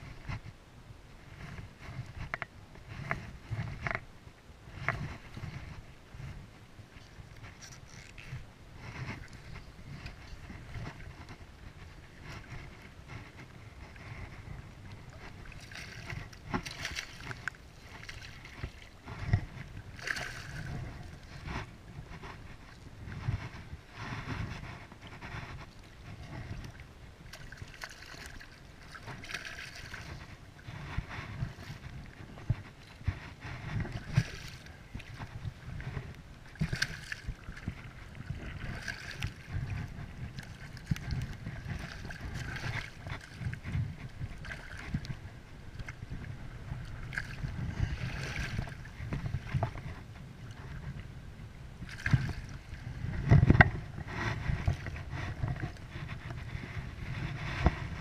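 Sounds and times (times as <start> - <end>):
wind on microphone: 0.0 - 58.0
shallow water sloshing and splashing: 4.6 - 58.0.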